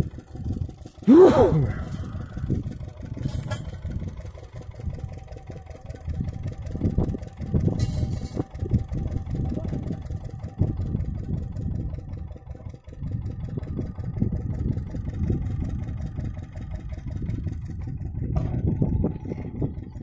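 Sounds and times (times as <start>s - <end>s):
small engine chugging: 0.0s - 20.0s.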